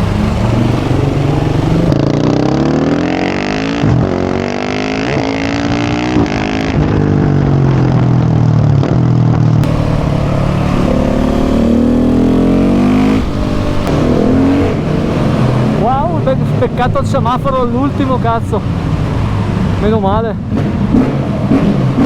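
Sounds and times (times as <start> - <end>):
motorcycle engine accelerating hard: 0.0 - 22.0.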